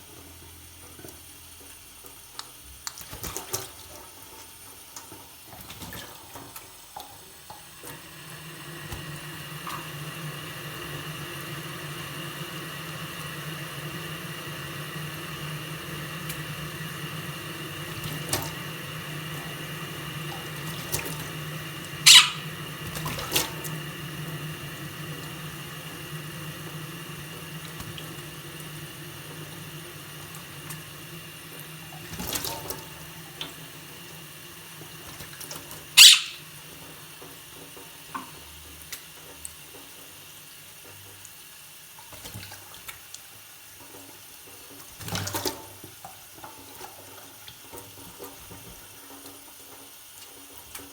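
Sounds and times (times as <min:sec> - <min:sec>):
tap water running into sink: 0:00.0 - 0:50.9.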